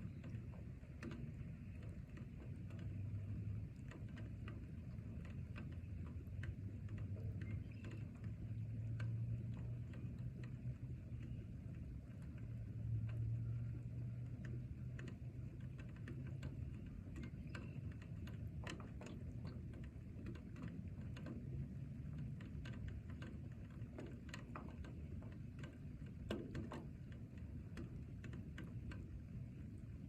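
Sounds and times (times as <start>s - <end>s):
low steady rumble: 0.0s - 30.0s
raindrops tapping: 0.0s - 30.0s.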